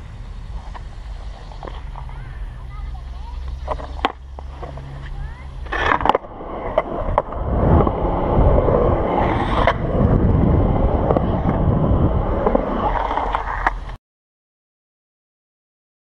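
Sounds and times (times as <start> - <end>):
skateboard wheels rolling on concrete: 0.0 - 14.0
skateboard clacks: 0.5 - 14.0.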